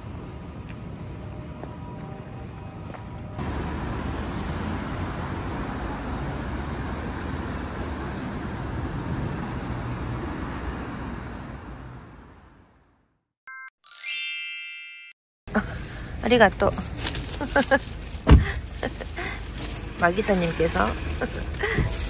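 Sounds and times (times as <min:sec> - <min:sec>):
city road traffic: 0:00.0 - 0:13.2, 0:15.5 - 0:22.0.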